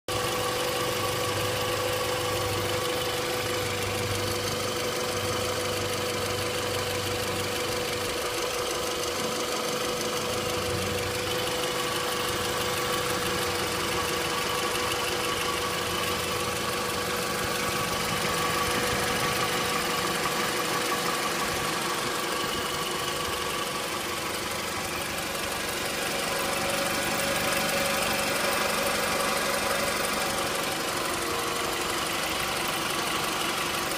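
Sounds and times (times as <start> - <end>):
car engine running: 0.1 - 33.9
constant whining tone: 0.9 - 33.9.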